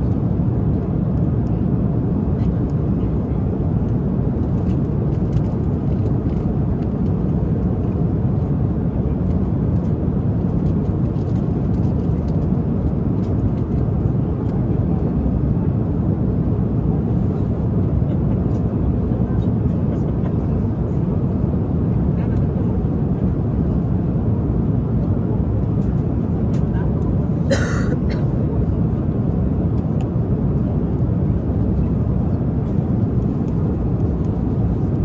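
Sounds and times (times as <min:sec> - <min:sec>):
airliner cabin engine rumble: 0:00.0 - 0:35.0.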